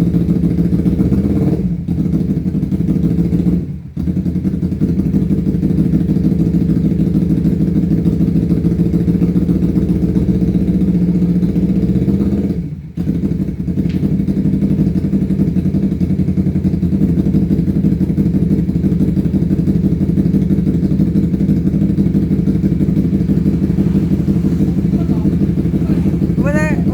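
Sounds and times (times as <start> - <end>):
motorcycle engine pulsing: 0.0 - 26.9.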